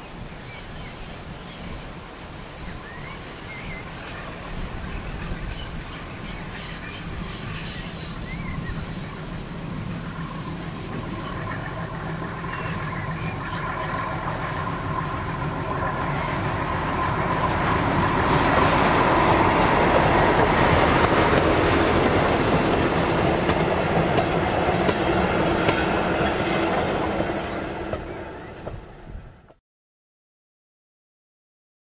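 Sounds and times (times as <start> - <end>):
diesel locomotive passing: 0.0 - 29.6.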